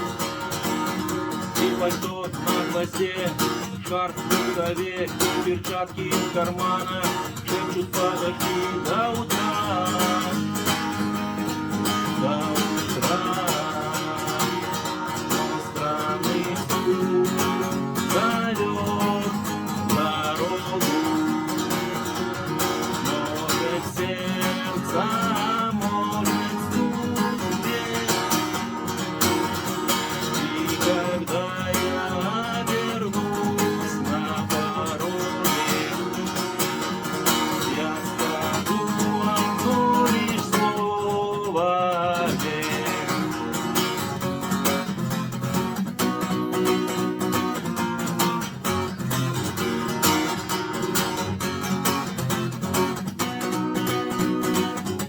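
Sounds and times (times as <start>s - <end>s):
rock guitar music: 0.0s - 55.0s.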